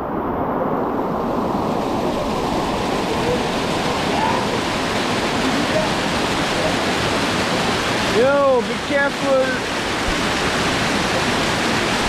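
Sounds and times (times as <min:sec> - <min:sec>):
waterfall pouring over rocks: 0:00.2 - 0:12.0.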